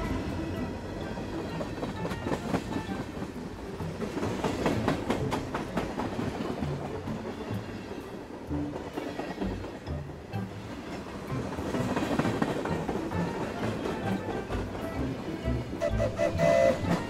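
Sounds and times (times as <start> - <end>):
train wheels clacking: 0.0 - 17.0.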